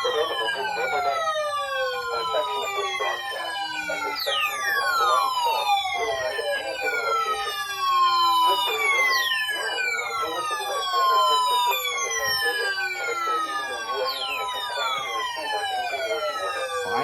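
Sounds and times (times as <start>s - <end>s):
electronic siren tones: 0.0s - 17.0s.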